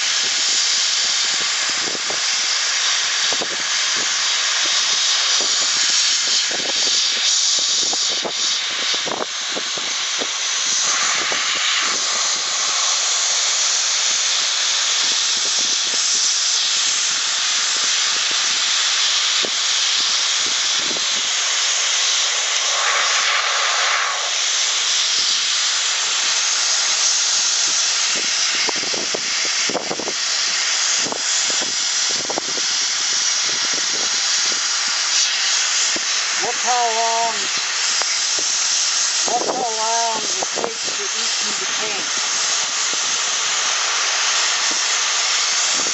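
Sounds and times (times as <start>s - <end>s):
sandblasting gun hissing: 0.0s - 45.9s.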